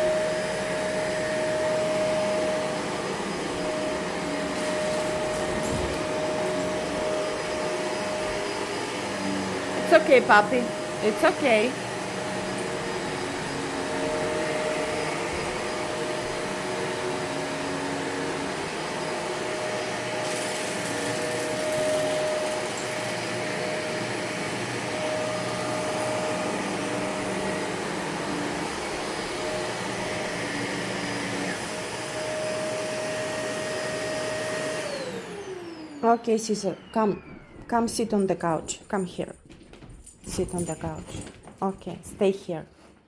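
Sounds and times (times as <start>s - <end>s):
vacuum cleaner running: 0.0s - 39.0s.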